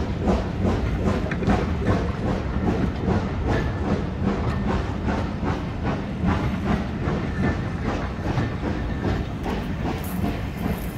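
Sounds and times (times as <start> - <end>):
train rumbling on track: 0.0 - 10.9
wheels clicking on rails: 0.0 - 10.9.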